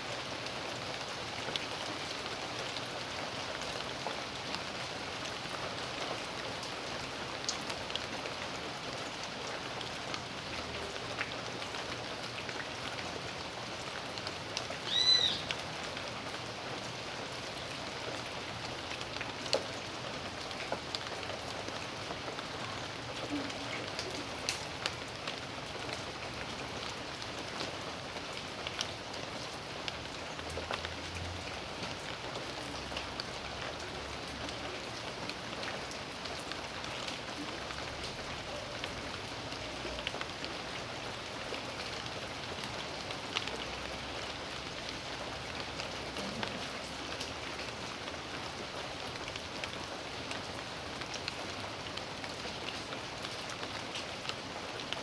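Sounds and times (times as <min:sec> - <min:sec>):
raindrops ticking on surfaces: 0:00.0 - 0:55.0.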